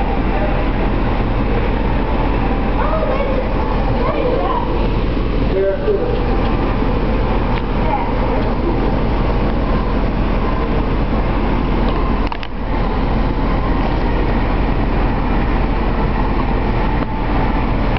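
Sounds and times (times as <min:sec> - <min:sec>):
loud background noise: 0:00.0 - 0:17.9
low hum: 0:00.0 - 0:17.9.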